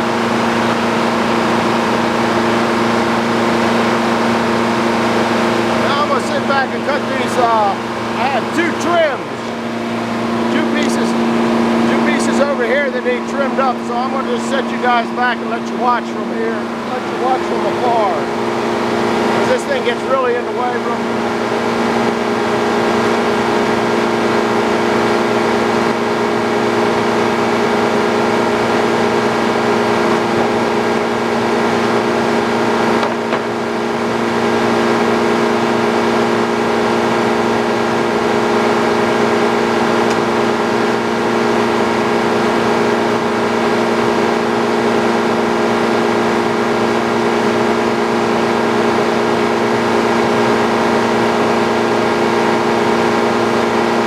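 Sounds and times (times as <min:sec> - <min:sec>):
sawmill machine drone: 0:00.0 - 0:54.0.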